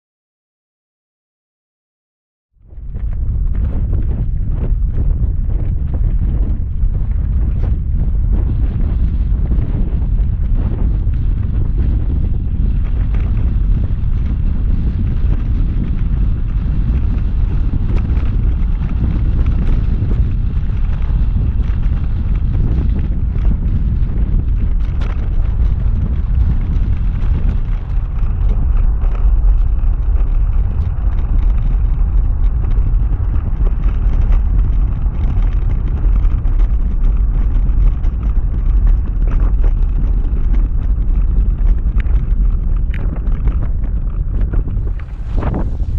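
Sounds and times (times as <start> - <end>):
wind buffeting microphone: 2.6 - 45.9.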